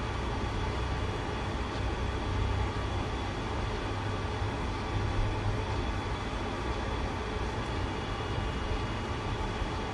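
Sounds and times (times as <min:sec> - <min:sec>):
steady rumbling noise: 0:00.0 - 0:09.9.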